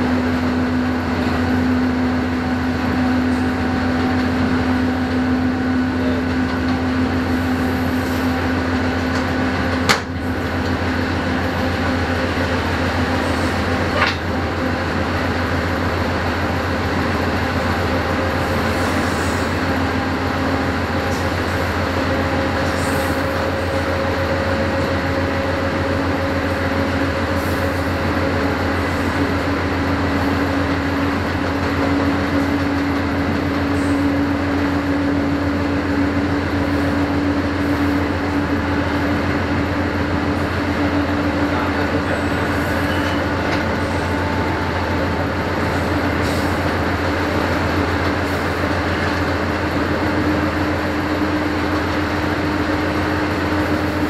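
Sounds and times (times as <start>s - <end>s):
locomotive engine drone: 0.0s - 54.0s.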